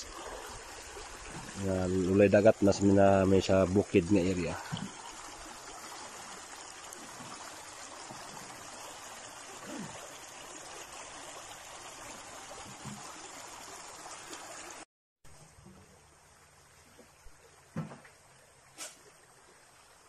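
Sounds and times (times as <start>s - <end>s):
creek water running over rocks: 0.0s - 20.0s.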